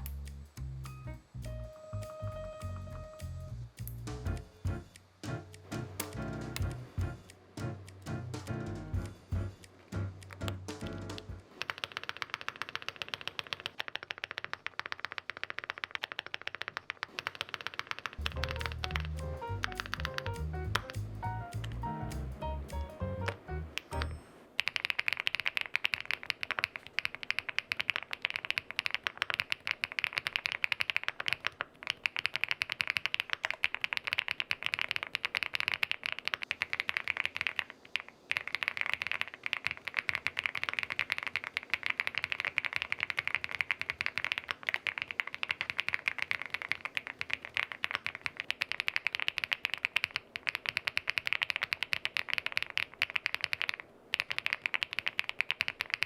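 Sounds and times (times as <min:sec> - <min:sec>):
mechanical keyboard typing: 0:10.0 - 0:21.8, 0:22.7 - 0:56.0.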